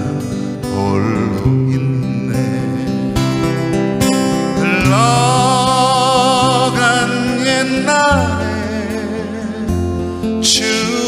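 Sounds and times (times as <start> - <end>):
person singing with vibrato: 0.0 - 11.0
strummed acoustic guitar: 0.0 - 11.0.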